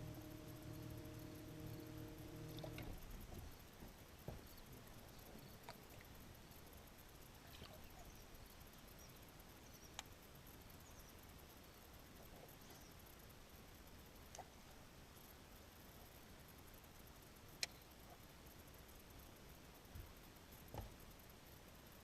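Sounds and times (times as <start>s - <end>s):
faint background hiss: 0.0s - 22.0s
low steady hum: 0.0s - 22.0s.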